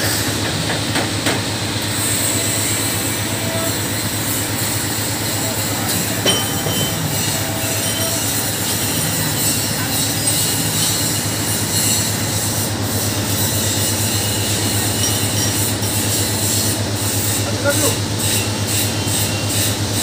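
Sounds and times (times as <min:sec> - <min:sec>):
bread slicer rattling hum: 0:00.0 - 0:20.0.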